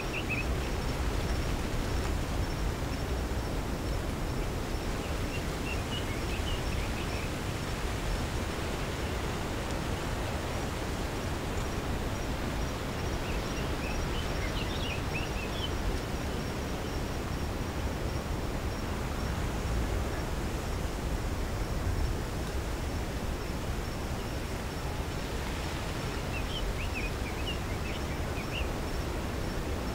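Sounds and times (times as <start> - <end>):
wind with low rumble: 0.0 - 29.9.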